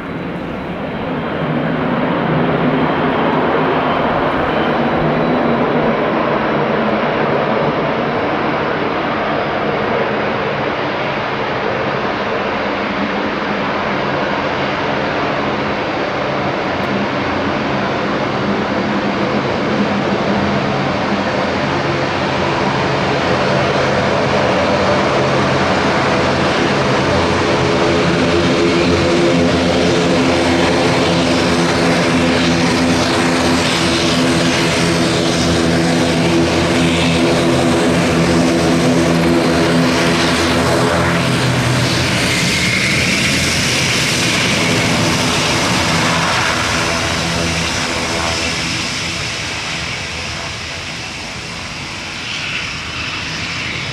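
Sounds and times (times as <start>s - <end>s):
turboprop engines droning: 0.0s - 53.9s.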